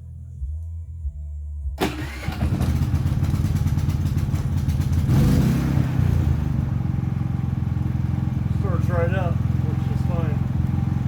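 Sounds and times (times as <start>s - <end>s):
generator engine running: 1.8s - 11.0s.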